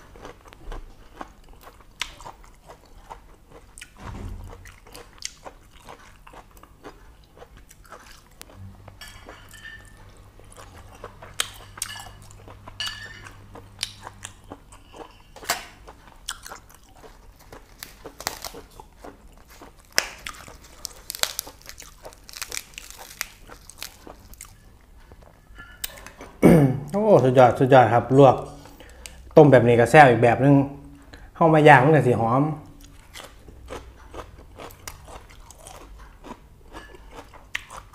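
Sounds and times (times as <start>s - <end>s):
person chewing wetly: 0.0s - 26.1s, 32.7s - 37.9s.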